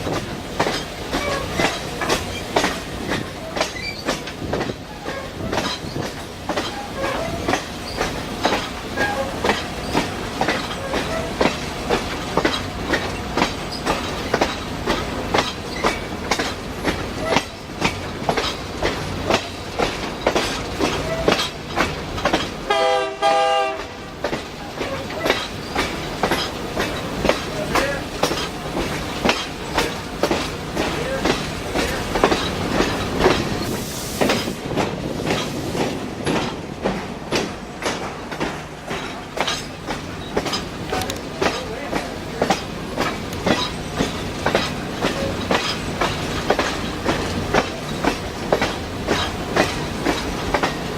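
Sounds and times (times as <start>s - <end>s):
train wheels clickety-clack: 0.0s - 50.9s.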